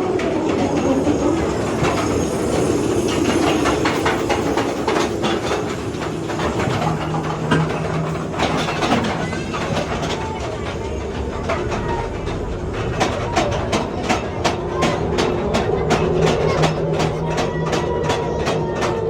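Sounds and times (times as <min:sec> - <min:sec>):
train cars rattling on track: 0:00.0 - 0:19.0
wheel clacks: 0:00.0 - 0:19.0.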